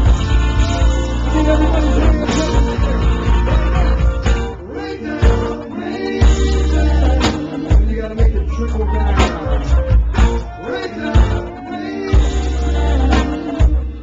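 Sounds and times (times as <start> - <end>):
drums: 0.0 - 14.0
heavy bass guitar: 0.0 - 14.0
soul band playing: 0.0 - 14.0
man singing lead: 0.6 - 14.0.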